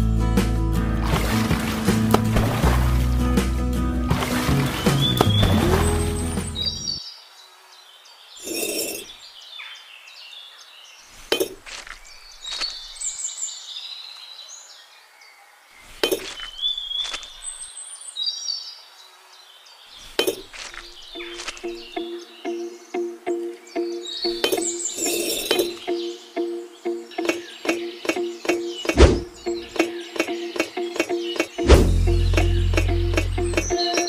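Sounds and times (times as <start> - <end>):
birds chirping: 4.0 - 34.0.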